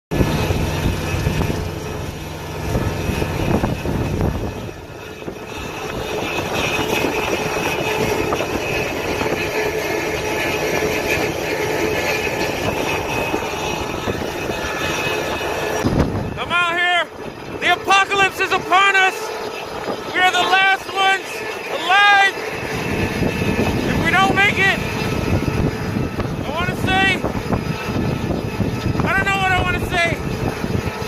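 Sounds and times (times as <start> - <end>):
motor drone with whine: 0.1 - 31.0.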